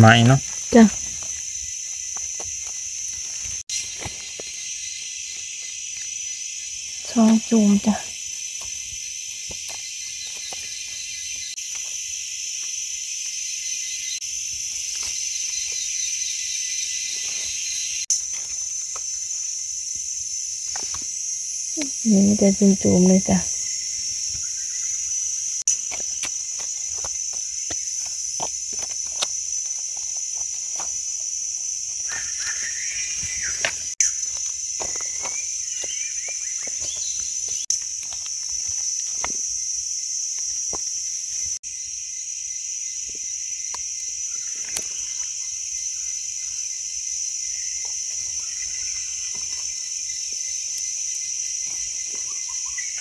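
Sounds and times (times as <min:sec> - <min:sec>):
insects chorus: 0:00.0 - 0:53.0.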